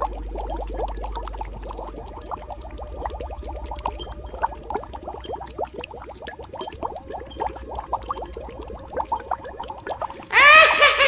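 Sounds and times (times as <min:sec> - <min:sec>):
bubbles popping: 0:00.0 - 0:10.3
thick liquid boiling: 0:00.0 - 0:10.4.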